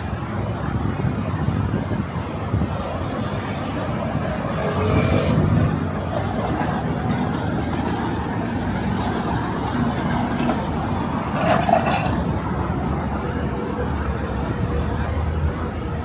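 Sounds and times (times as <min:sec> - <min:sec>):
indistinct voices of passers-by: 0:00.0 - 0:16.0
low street rumble: 0:00.0 - 0:16.0.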